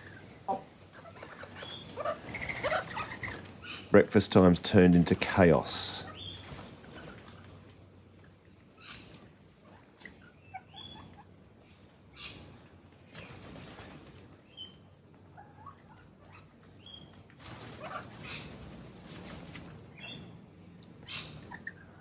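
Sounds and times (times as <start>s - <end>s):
parrots squeaking and chirping: 0.0s - 4.0s, 6.0s - 7.7s, 8.7s - 22.0s.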